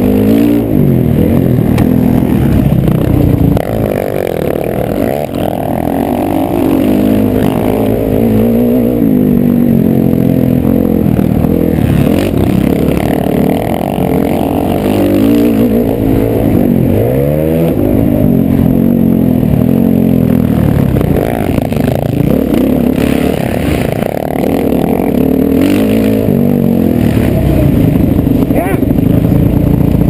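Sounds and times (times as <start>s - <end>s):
dirt and wind clatter: 0.0s - 30.0s
motocross bike engine revving: 0.0s - 30.0s.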